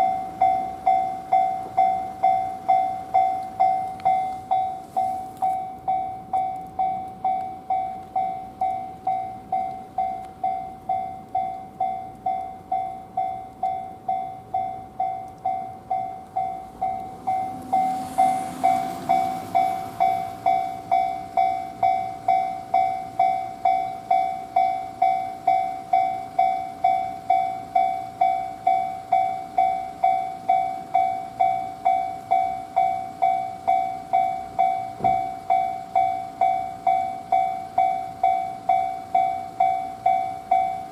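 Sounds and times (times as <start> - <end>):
level crossing warning bell: 0.0 - 40.9.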